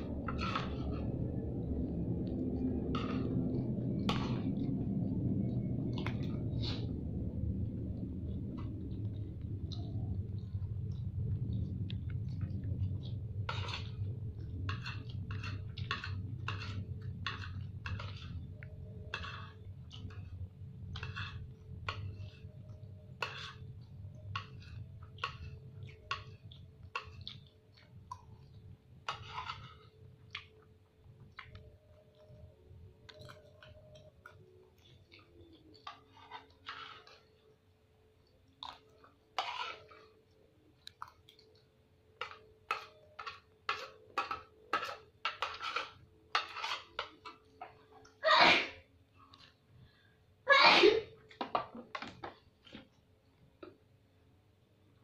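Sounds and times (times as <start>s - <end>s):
person chewing: 0.0s - 48.2s.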